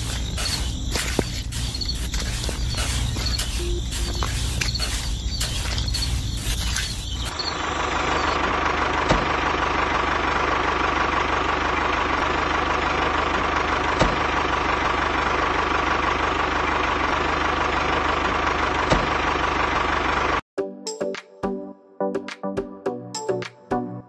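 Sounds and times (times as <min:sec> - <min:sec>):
small tractor engine running: 0:00.0 - 0:20.4.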